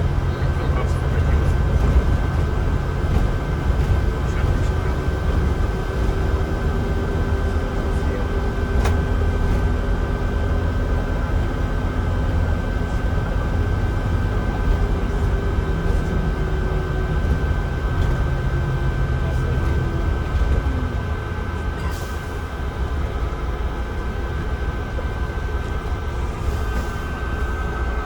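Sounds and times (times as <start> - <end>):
bus engine rumble: 0.0 - 28.0.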